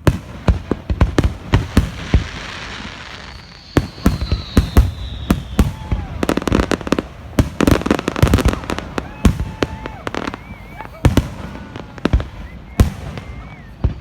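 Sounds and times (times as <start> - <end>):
fireworks bangs: 0.0 - 14.0
firework whistle falling in pitch: 1.9 - 14.0.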